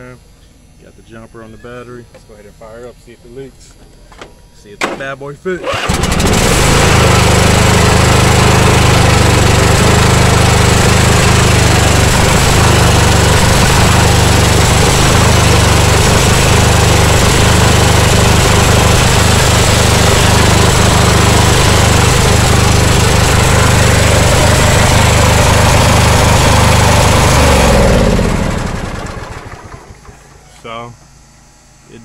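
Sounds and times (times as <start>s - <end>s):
lawn tractor engine running: 5.6s - 31.2s.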